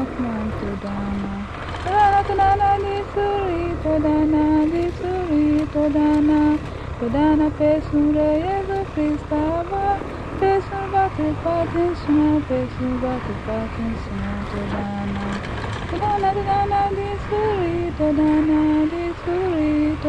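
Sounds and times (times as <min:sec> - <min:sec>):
low rumble: 0:00.0 - 0:20.0
person singing slow melody: 0:00.0 - 0:20.0.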